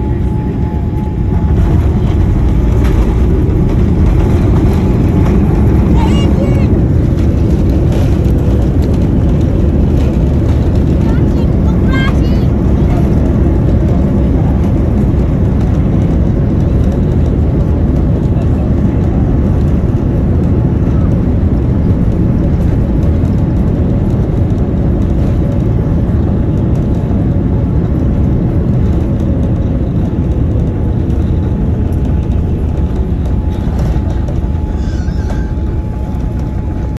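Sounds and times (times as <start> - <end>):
aircraft engines and wheels rumbling: 0.0 - 37.0.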